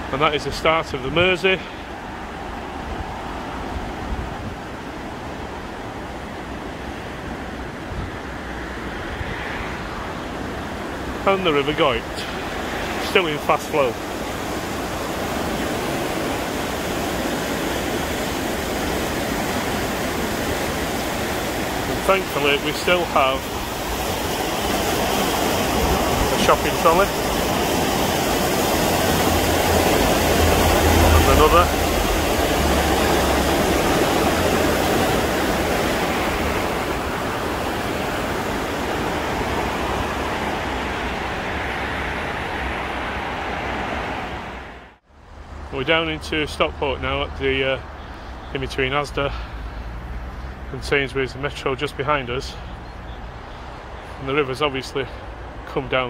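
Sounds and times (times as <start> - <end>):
river water rushing: 0.0 - 46.4, 47.2 - 55.7.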